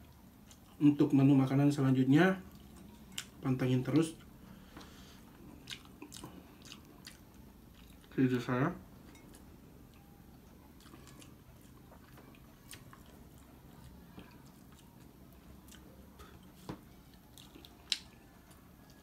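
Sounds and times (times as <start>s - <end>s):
person chewing: 0.0s - 0.8s, 2.4s - 8.2s, 9.1s - 19.0s
low room hum: 0.0s - 19.0s.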